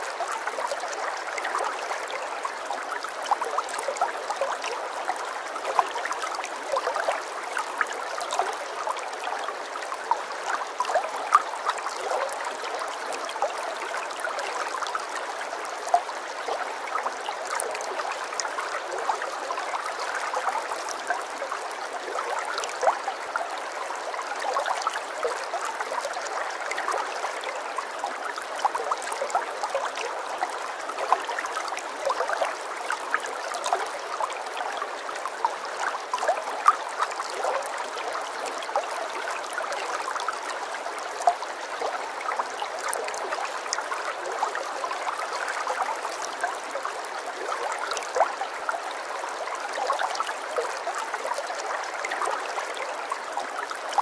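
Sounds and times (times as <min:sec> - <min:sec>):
trickling stream: 0:00.0 - 0:54.0.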